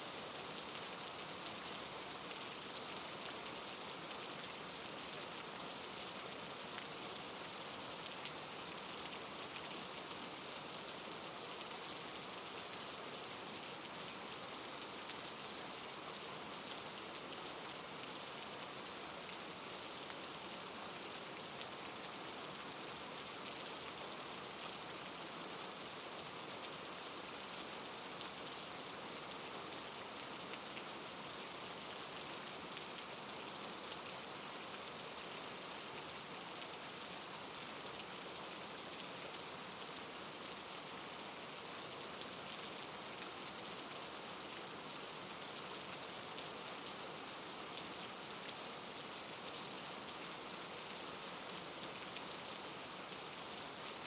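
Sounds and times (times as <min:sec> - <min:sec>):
soft rain falling: 0:00.0 - 0:54.0.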